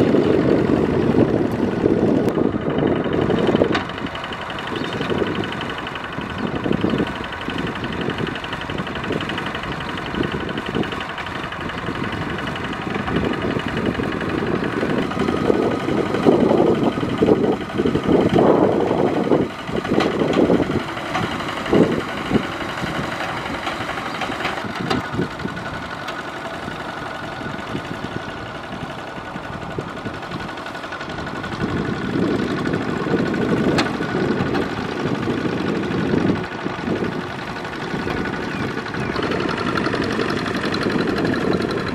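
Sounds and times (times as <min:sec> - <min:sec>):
diesel engine running: 0:00.0 - 0:41.9
wheels churning through water: 0:00.0 - 0:41.9.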